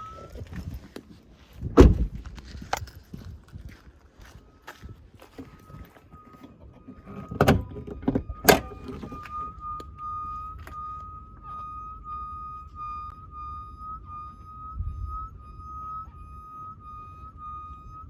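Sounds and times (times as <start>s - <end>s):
pulsing high whistle-like engine tone: 0.0s - 1.8s, 3.2s - 18.0s.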